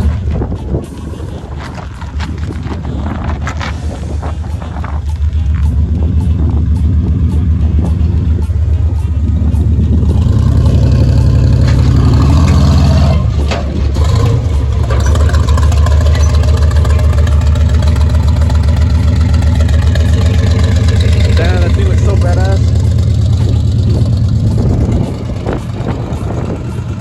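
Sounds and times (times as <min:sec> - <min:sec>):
truck engine pulling under load: 0:00.0 - 0:27.0.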